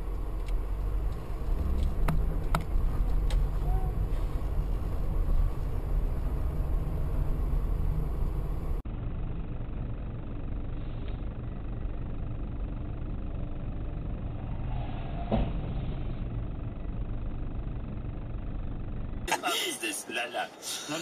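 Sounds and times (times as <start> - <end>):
car engine: 0.0 - 21.0
road rumble: 0.0 - 21.0.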